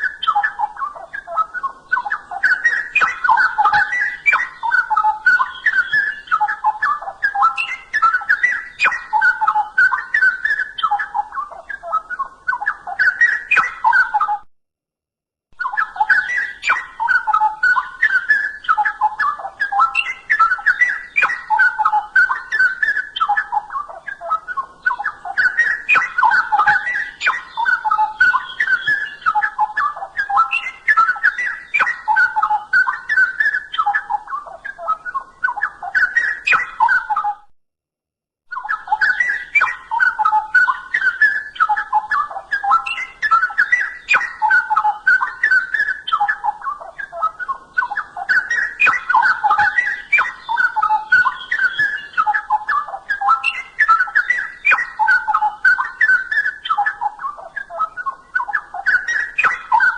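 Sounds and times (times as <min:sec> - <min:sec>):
bulbul singing: 0:00.0 - 0:14.5, 0:15.6 - 0:37.5, 0:38.5 - 0:59.9.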